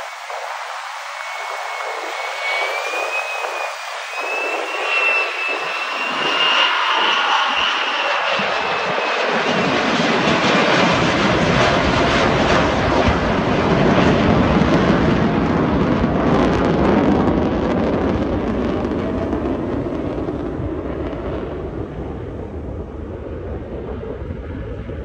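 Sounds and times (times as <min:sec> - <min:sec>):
jet engine deep rushing roar: 0:00.0 - 0:25.0.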